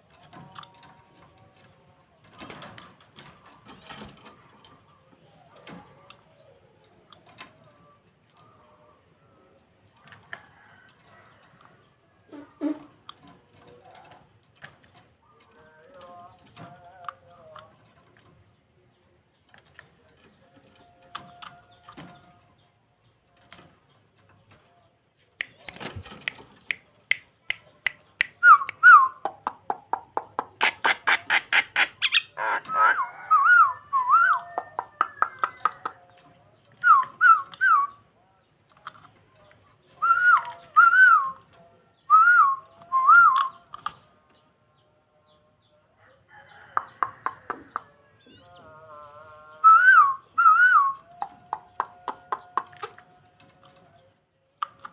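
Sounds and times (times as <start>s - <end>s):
starling singing: 0.0s - 54.9s.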